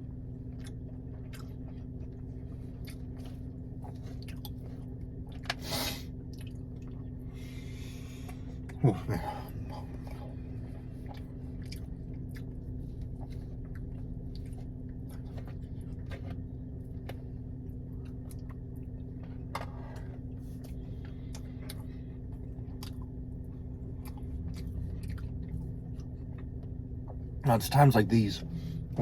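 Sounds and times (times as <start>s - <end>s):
chewing and biting food: 0.0s - 27.4s
steady low hum: 0.0s - 29.0s.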